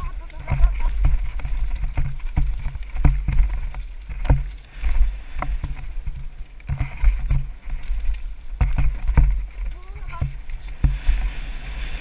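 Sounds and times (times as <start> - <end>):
bike clattering over bumps: 0.0 - 11.3
wind rumble on microphone: 0.0 - 12.0.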